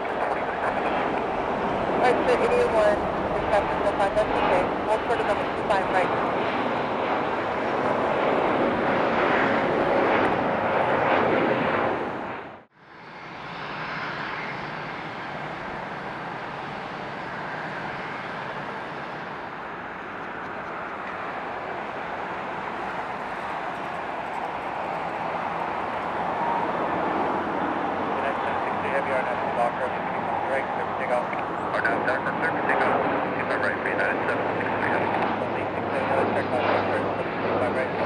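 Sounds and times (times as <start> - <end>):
jet engines whining: 0.0 - 38.0
steady jet engine noise: 0.0 - 38.0.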